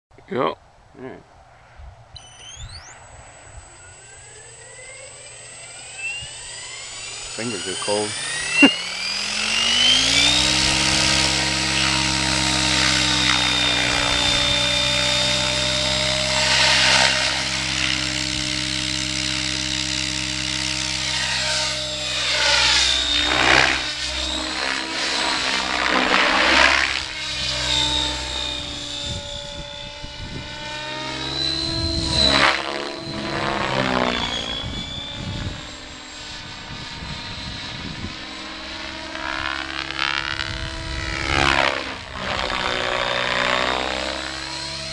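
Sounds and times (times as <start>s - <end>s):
model helicopter rotor whine: 1.0s - 44.9s
rotor whooshing: 1.4s - 44.9s.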